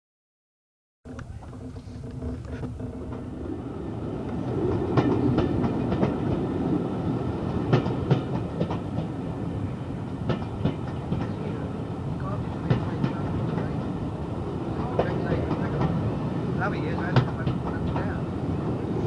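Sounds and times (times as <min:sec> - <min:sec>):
wheels clicking over rail joints: 0:01.1 - 0:09.2, 0:10.0 - 0:18.8
train rumble: 0:01.1 - 0:19.0.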